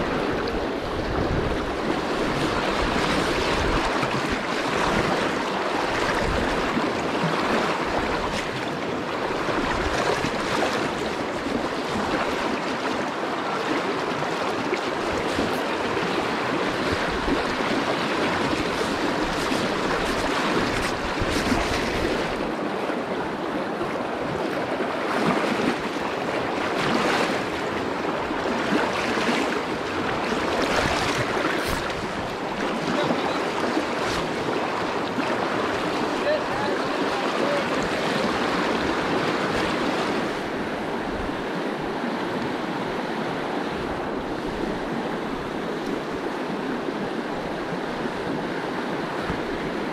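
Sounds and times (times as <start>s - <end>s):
river rushing over rocks: 0.0s - 49.9s
wind rumble on microphone: 0.0s - 49.9s.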